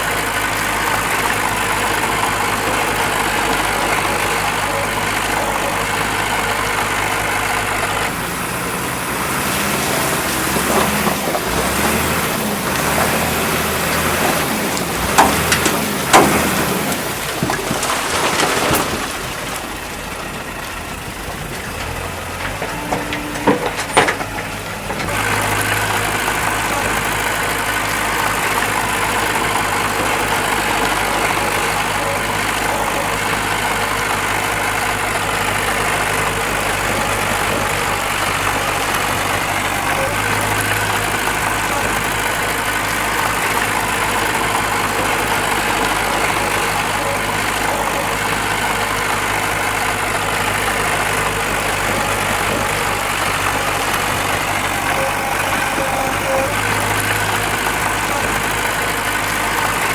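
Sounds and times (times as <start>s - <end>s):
diesel machinery engine running: 0.0s - 59.9s.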